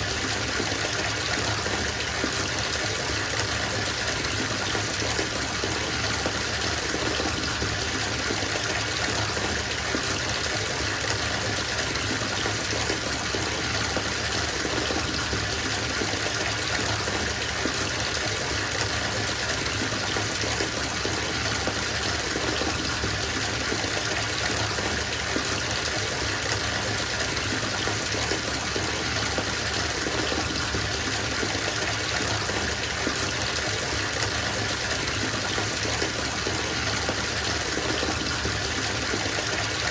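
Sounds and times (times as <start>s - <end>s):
faucet running into bathtub: 0.0s - 39.9s.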